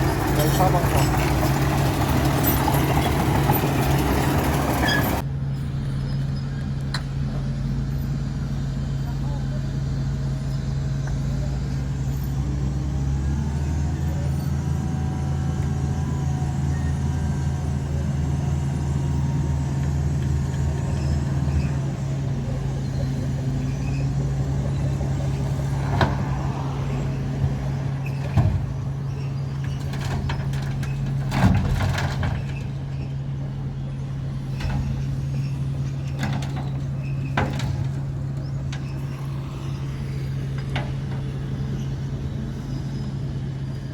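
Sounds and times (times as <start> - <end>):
diesel construction machinery droning: 0.0 - 43.9.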